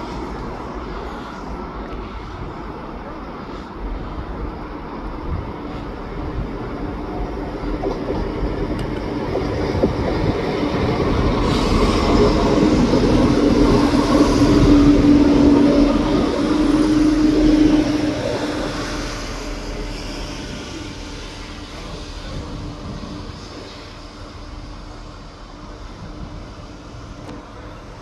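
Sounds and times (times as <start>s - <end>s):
train running past: 0.0s - 28.0s
train whine: 0.0s - 28.0s.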